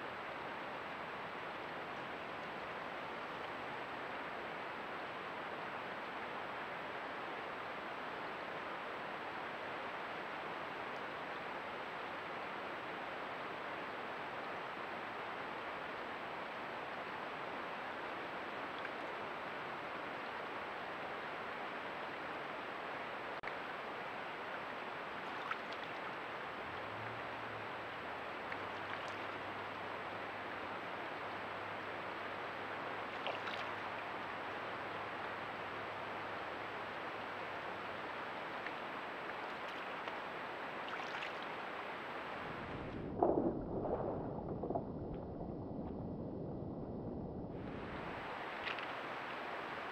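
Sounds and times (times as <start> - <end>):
creek water flowing: 0.0 - 44.9, 47.6 - 49.9.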